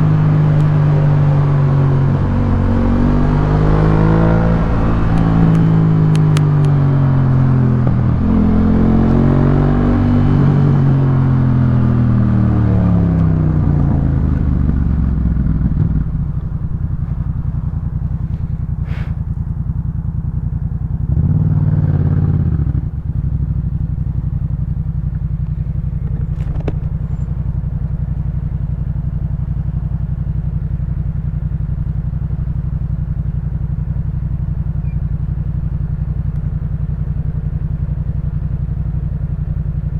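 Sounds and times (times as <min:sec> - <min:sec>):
motorcycle engine idling: 0:00.0 - 0:09.6, 0:10.3 - 0:39.9.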